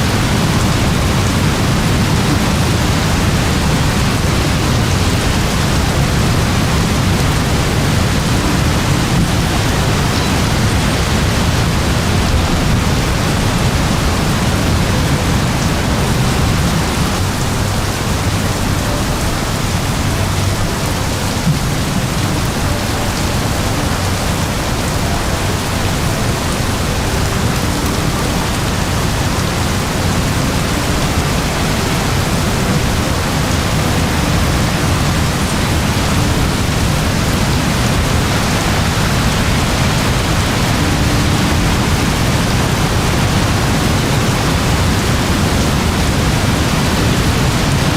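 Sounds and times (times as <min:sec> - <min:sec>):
very heavy rain: 0:00.0 - 0:47.9.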